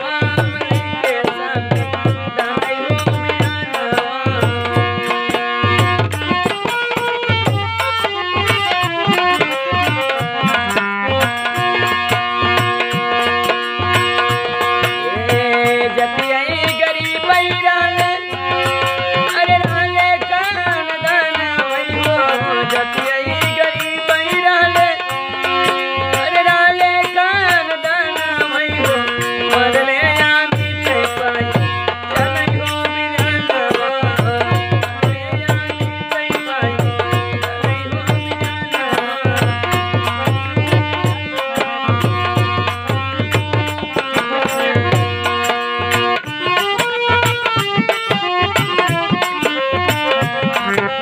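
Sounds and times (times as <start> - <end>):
hand drum beating rhythm: 0.0 - 51.0
harmonium chords: 0.0 - 51.0
man singing: 0.0 - 51.0.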